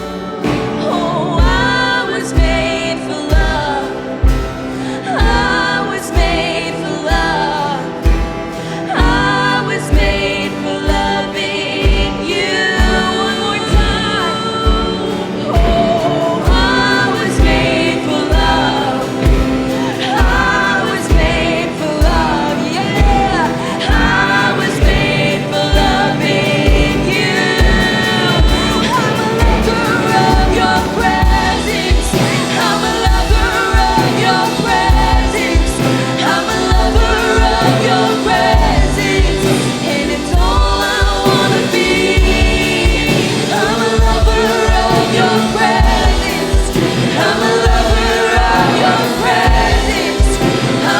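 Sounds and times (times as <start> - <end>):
voices singing: 0.0 - 50.9
worship band music: 0.0 - 50.9
steady low drum beat: 1.4 - 50.9.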